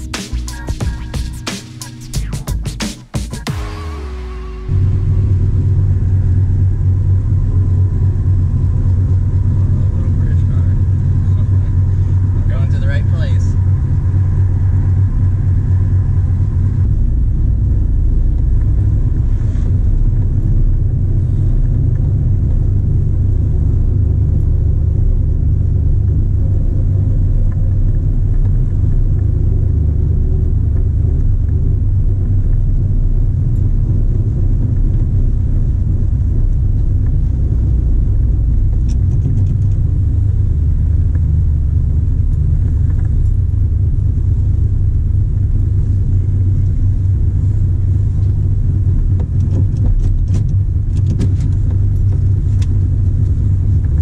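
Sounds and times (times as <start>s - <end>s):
deep car exhaust rumble: 0.0s - 54.0s.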